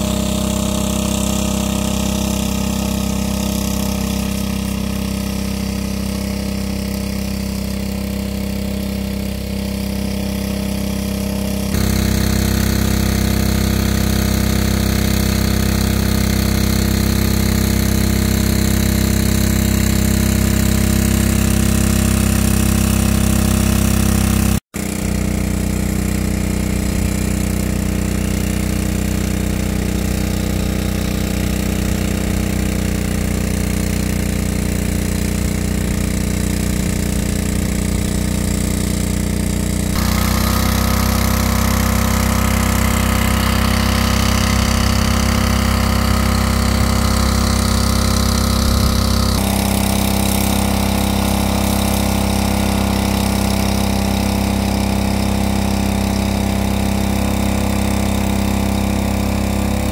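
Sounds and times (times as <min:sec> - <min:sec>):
gasoline engine water pump running: 0:00.0 - 0:59.9.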